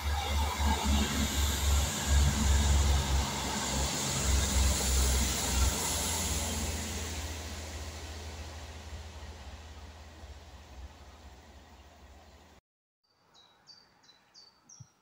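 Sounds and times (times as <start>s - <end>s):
train rumbling over a bridge: 0.0s - 12.6s.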